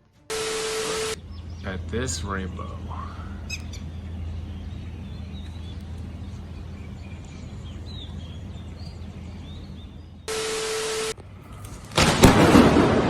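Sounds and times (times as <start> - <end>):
low outdoor rumble: 0.0 - 13.0
small birds chirping: 0.5 - 11.7.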